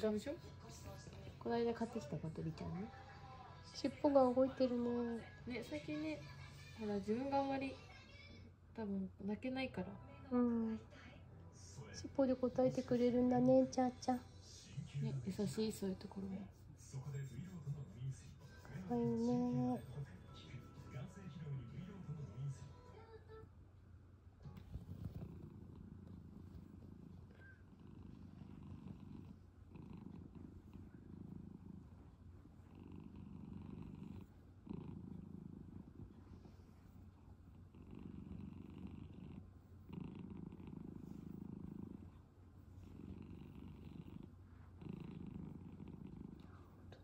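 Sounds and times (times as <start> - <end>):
cat purring: 0.0 - 47.0.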